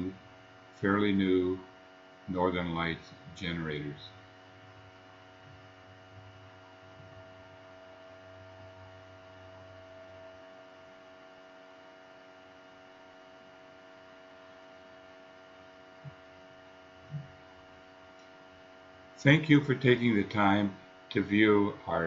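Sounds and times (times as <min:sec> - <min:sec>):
engine-room hum: 0:00.0 - 0:22.0.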